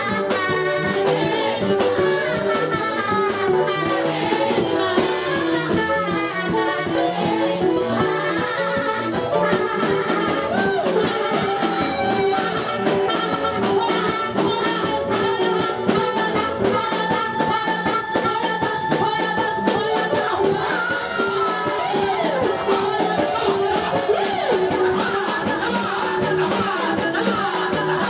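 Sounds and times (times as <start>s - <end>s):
faint singing voice: 0.0s - 28.0s
held melodic line: 0.0s - 28.0s
music with steady beat: 0.0s - 28.0s.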